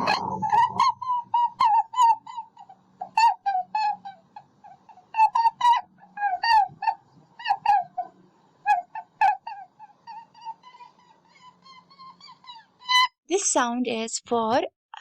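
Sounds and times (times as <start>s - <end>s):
rabbit squeaks: 0.0s - 13.2s.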